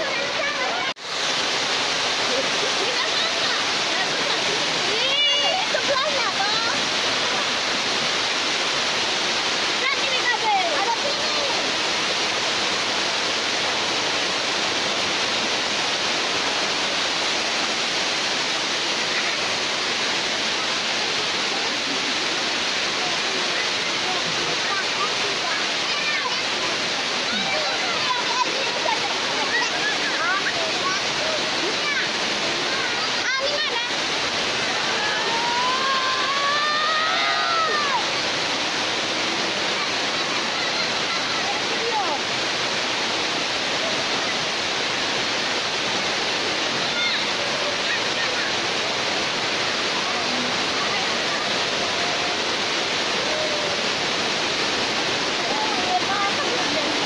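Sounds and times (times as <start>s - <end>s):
water rushing down spillway: 0.0s - 57.0s.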